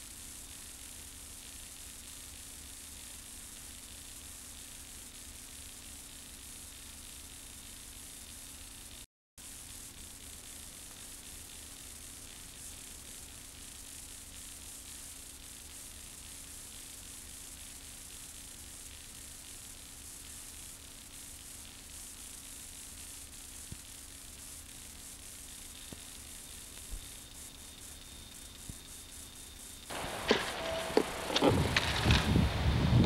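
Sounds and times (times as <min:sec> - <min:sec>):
tape hiss: 0:00.0 - 0:33.0.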